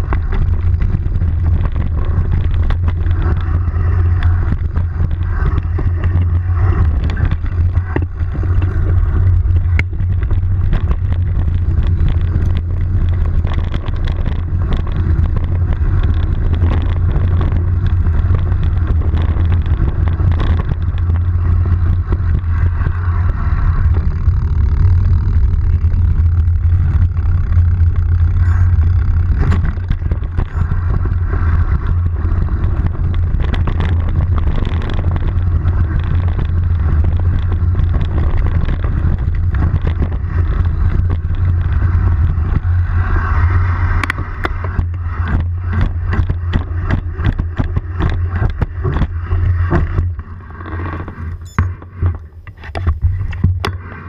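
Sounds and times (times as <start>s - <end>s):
knocks and rattles over bumps: 0.0s - 53.9s
vehicle rumbling on dirt trail: 0.0s - 54.0s.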